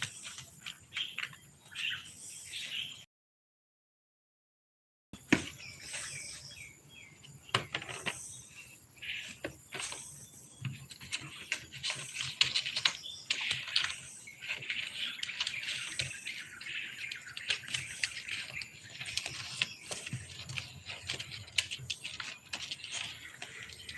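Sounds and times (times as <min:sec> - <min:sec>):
bird chirps: 0:00.0 - 0:03.1, 0:05.2 - 0:23.9.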